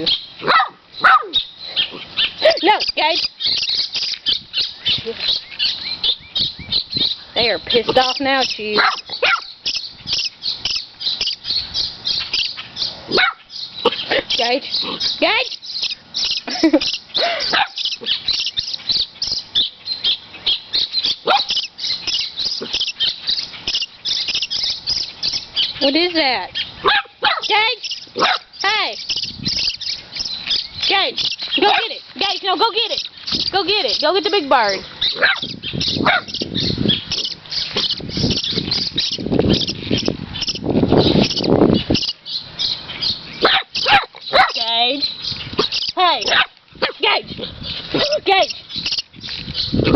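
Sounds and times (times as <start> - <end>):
birds chirping rapidly: 0.0 - 49.9.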